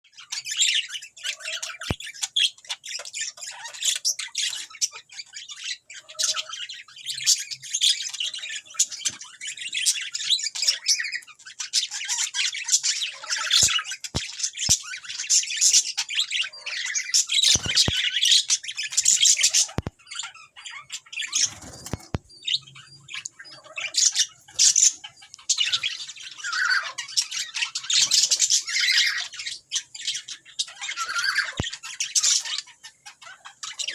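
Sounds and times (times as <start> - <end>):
parrots chattering and squawking: 0.1 - 33.9.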